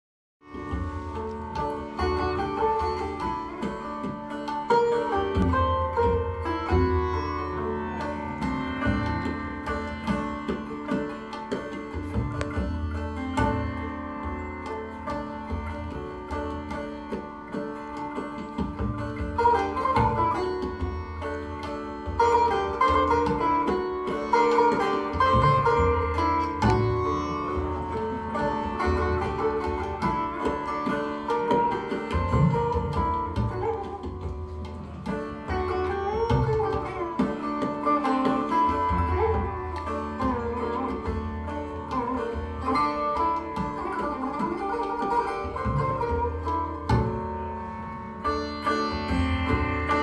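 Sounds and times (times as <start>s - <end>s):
sitar melody: 0.4s - 50.0s
tabla strokes: 0.4s - 50.0s
tanpura drone: 0.5s - 50.0s.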